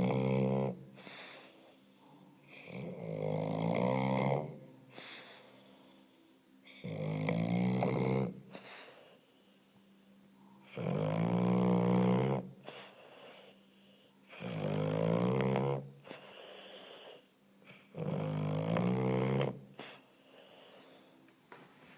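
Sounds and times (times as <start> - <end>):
dog snoring: 0.0 - 9.6, 10.6 - 21.2
dog breathing: 0.0 - 10.0, 10.6 - 21.3.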